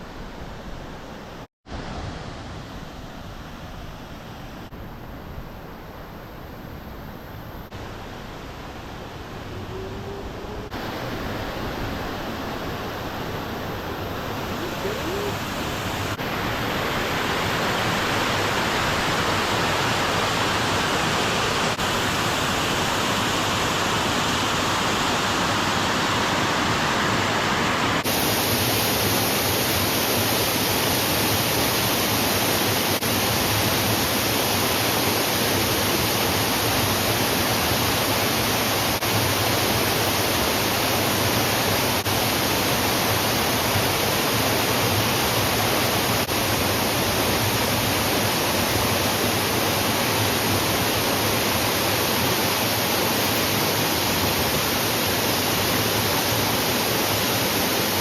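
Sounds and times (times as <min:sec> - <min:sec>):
waterfall rushing: 0:07.7 - 0:58.0.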